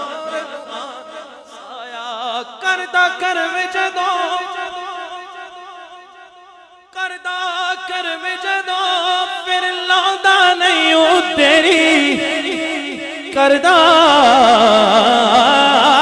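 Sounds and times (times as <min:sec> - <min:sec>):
man singing: 0:00.0 - 0:06.2, 0:06.9 - 0:16.0.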